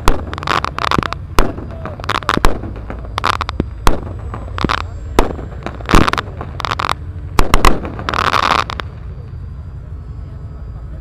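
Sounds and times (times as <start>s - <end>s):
firecracker bangs: 0.0s - 9.0s
steady low rumble: 0.0s - 11.0s.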